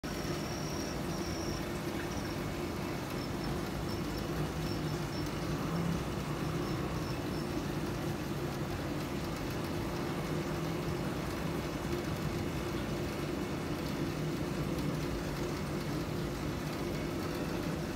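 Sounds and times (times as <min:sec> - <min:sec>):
aquarium filter pump humming: 0:00.0 - 0:17.9.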